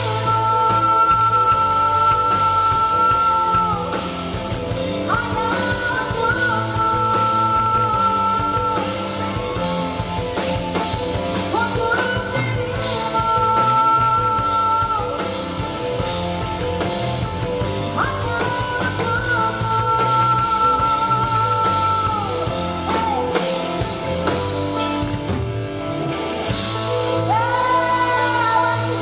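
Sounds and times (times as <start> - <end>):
live band playing: 0.0 - 29.0.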